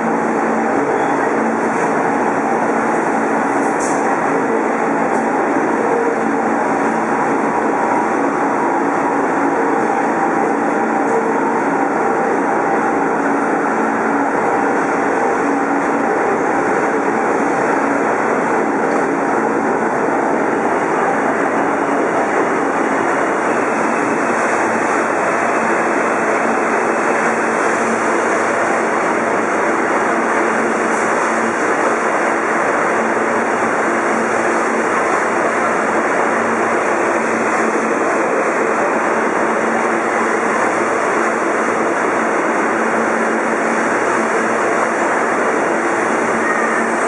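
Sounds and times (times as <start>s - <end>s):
subway train pulling out: 0.0s - 47.0s
subway train rolling in hissing: 0.0s - 47.0s.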